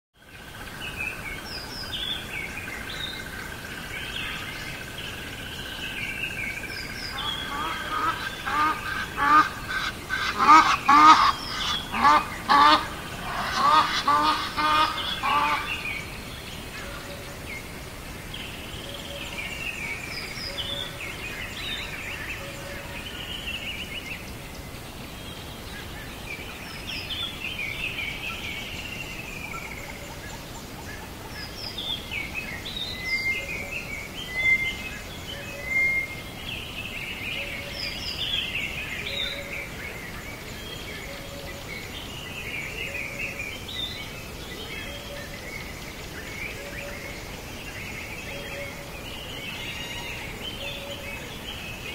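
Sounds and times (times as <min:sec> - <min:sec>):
bird chirps and songs: 0:00.2 - 0:51.9
birds calling: 0:00.9 - 0:51.9.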